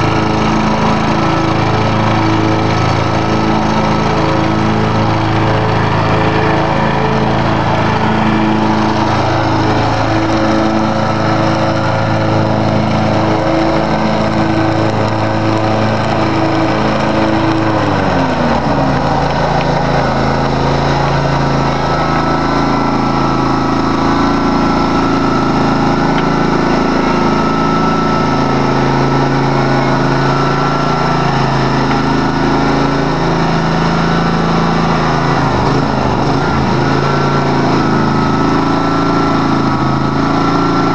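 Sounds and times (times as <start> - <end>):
mower engine running: 0.0 - 40.9.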